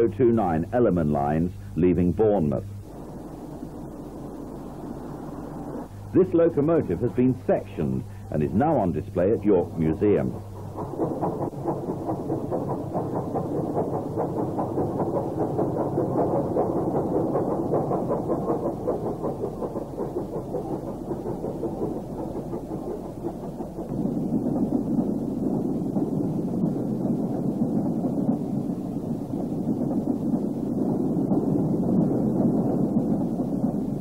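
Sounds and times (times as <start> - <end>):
steam train rumbling: 0.0 - 34.0.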